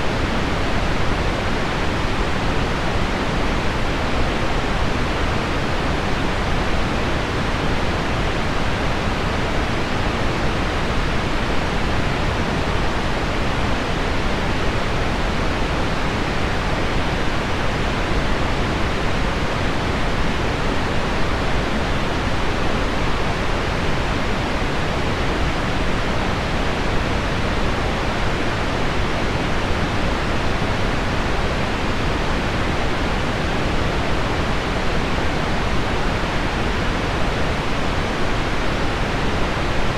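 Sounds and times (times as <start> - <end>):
pink noise: 0.0 - 39.9.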